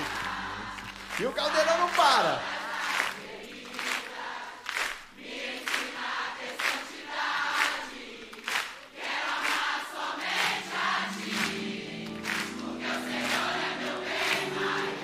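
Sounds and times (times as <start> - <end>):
hand claps in time: 0.0 - 6.0, 6.6 - 6.8, 7.4 - 15.0
crowd singing together: 0.0 - 15.0.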